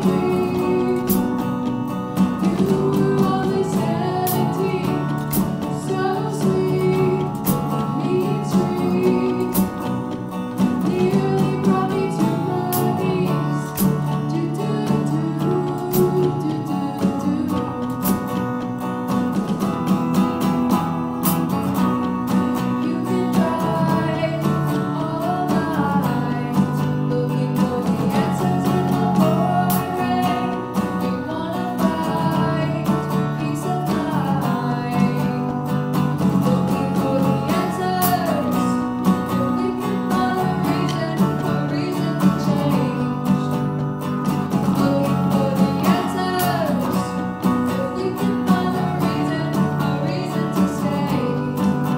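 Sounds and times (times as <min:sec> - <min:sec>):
women singing: 0:00.0 - 0:19.3, 0:21.6 - 0:51.9
drum kit: 0:00.0 - 0:51.9
electric bass: 0:00.0 - 0:51.9
electric guitar: 0:00.0 - 0:51.9.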